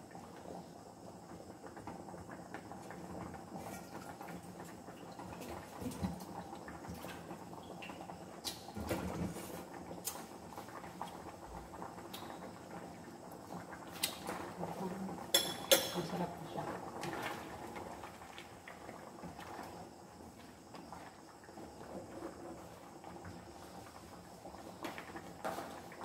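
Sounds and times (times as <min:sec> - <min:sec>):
food simmering in a frying pan: 0:00.0 - 0:26.0.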